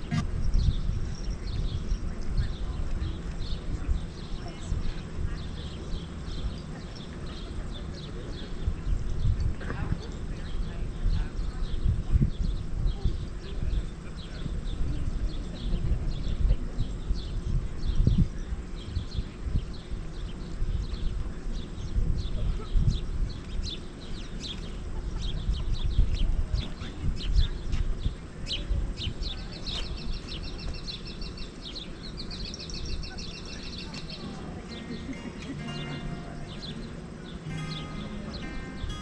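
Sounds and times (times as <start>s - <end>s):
wind rumble on microphone: 0.0s - 34.7s
small birds chirping: 0.0s - 39.0s.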